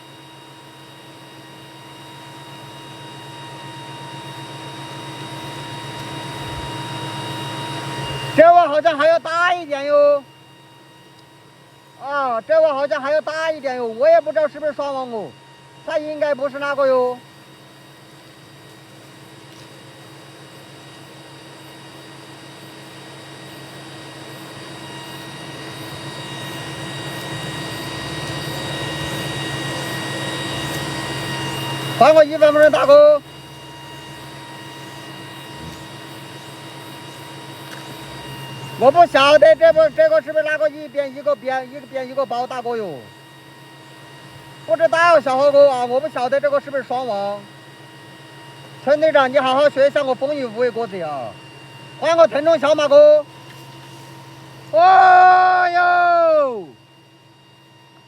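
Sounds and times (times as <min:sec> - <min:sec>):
machine hum: 0:00.0 - 0:58.0
high whining tones: 0:00.8 - 0:21.3, 0:22.2 - 0:58.0.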